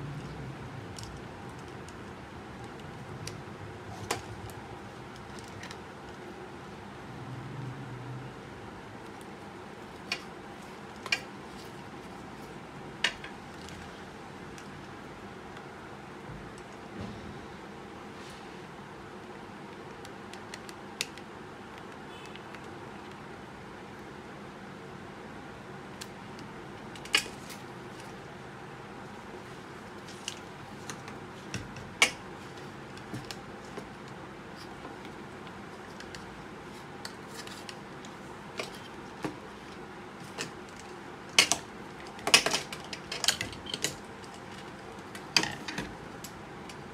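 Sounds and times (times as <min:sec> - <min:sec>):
steady background hiss: 0:00.0 - 0:46.9
steady background noise: 0:00.0 - 0:46.9.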